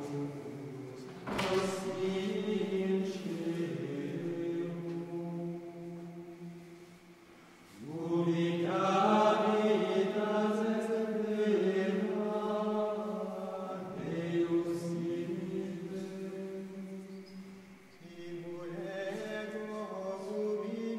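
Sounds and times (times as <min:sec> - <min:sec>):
men singing chant: 0:00.0 - 0:05.4, 0:07.8 - 0:17.1, 0:18.0 - 0:20.9.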